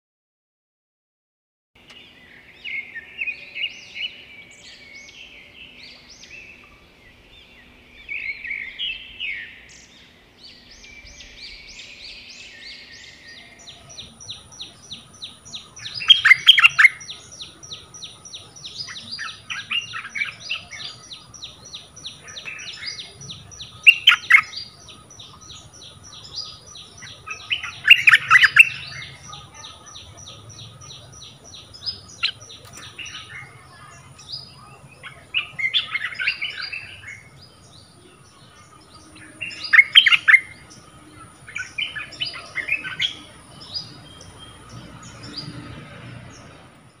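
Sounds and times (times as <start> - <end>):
bird singing: 1.8 - 47.0.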